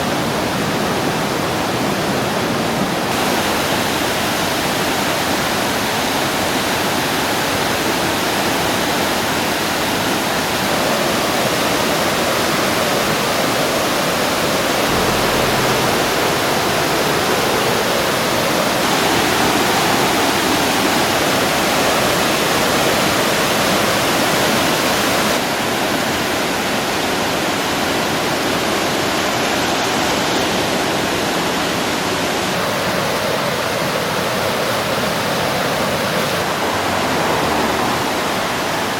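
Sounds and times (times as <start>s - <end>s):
river rushing whitewater: 0.0s - 38.9s.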